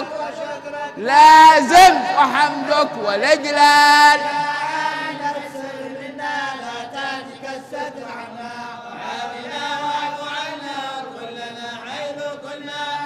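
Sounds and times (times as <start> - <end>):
men chanting together: 0.0 - 13.0.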